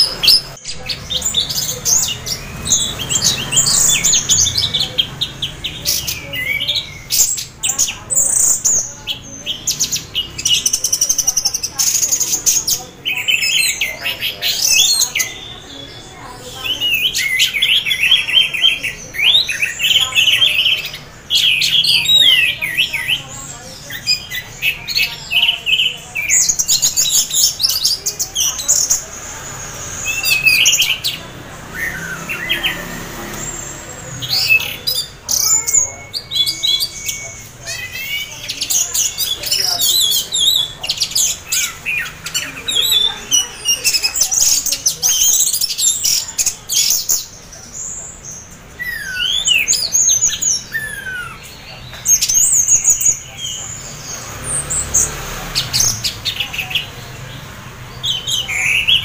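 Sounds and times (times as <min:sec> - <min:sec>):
thrush singing whistled phrases: 0:00.0 - 0:47.3, 0:48.2 - 0:57.4.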